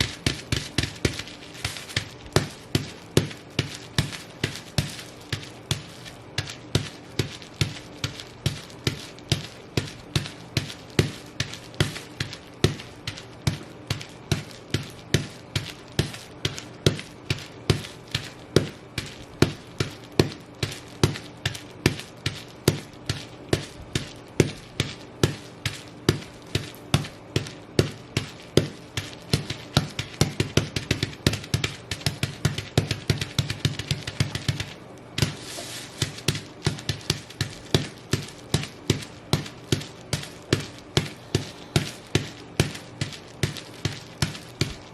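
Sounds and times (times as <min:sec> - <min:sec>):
bubble wrap popping under boots: 0:00.0 - 0:44.9.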